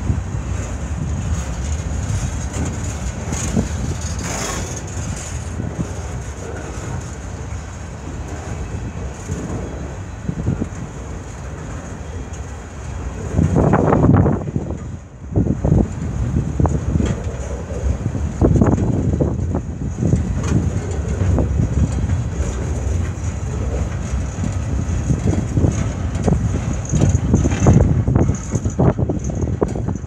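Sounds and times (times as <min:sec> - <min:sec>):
train wheels rumbling on rail: 0:00.0 - 0:30.0
wheels knocking over rail joints: 0:00.0 - 0:30.0.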